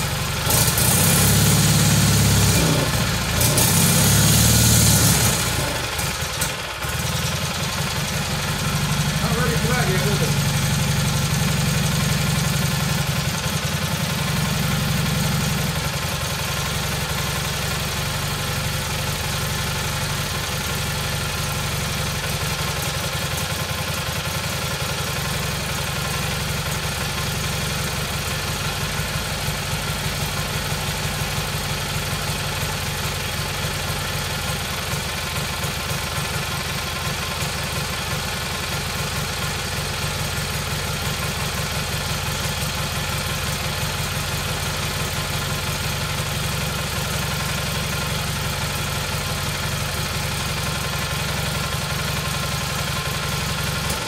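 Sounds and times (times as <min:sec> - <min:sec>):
twin engine running: 0:00.0 - 0:54.0.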